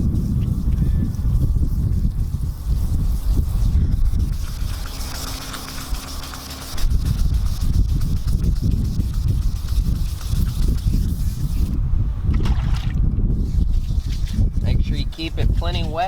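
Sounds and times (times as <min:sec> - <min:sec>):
sandpaper rasping on hull: 0:00.0 - 0:11.8, 0:13.4 - 0:16.0
wind rumble on microphone: 0:00.0 - 0:16.0.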